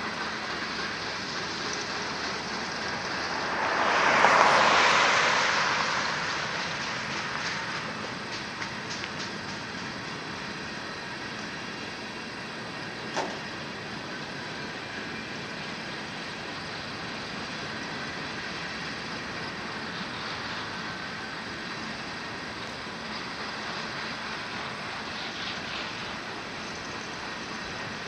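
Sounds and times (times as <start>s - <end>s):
freight cars rumbling on rails: 0.0s - 28.0s.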